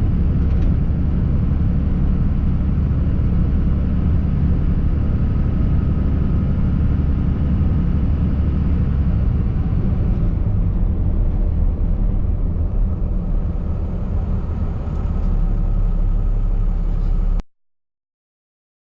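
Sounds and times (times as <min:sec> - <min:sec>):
truck engine running: 0:00.0 - 0:17.4.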